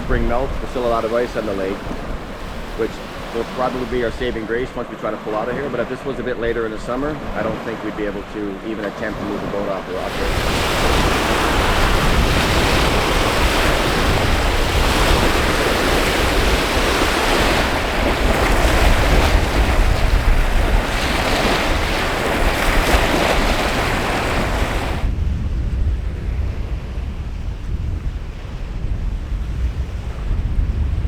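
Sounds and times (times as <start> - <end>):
waves crashing on rocky shore: 0.0 - 25.1
wind buffeting microphone: 0.0 - 31.0.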